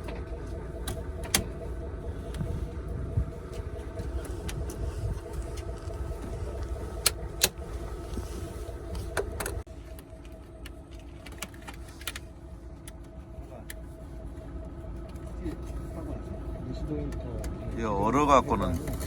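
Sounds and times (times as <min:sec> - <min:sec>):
truck running noise: 0:00.0 - 0:19.0.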